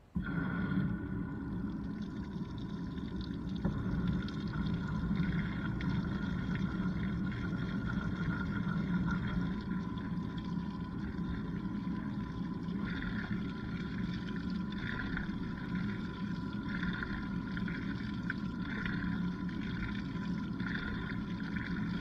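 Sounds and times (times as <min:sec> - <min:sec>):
washing machine churning water: 0:00.2 - 0:22.0.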